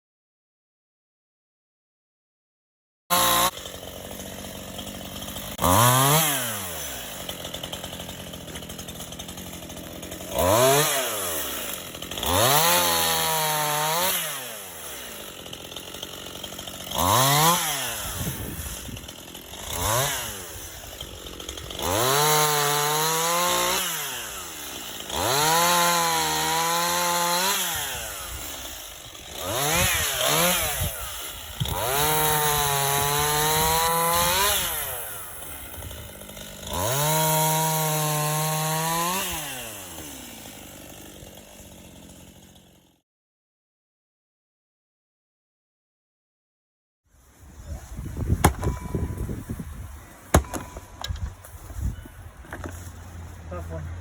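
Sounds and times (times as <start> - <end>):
chainsaw cutting logs: 3.1 - 43.0, 47.2 - 54.0
chainsaw revving and idling: 3.1 - 43.0, 47.9 - 54.0.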